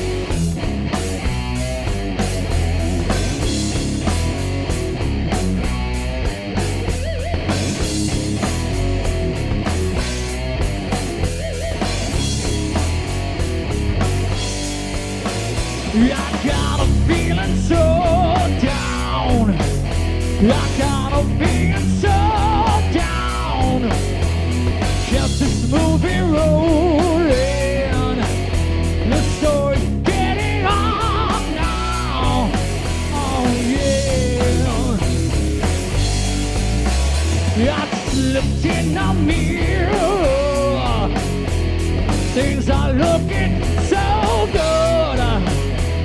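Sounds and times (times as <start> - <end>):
live rock band playing: 0.0 - 46.0
wavering lead guitar melody: 0.0 - 46.0.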